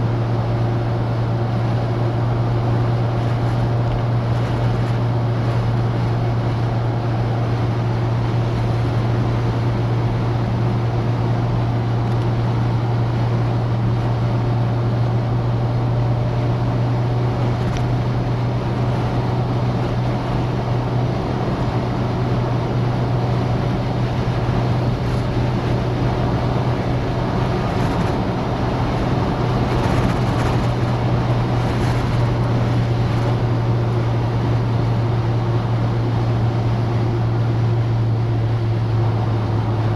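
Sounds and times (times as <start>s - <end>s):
low car engine drone: 0.0s - 39.9s
road and wind noise: 0.0s - 39.9s.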